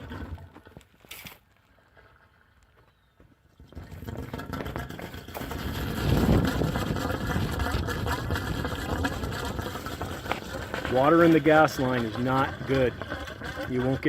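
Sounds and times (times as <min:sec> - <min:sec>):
gurgling and bubbling in a pipe: 0:00.0 - 0:00.8, 0:03.4 - 0:14.0.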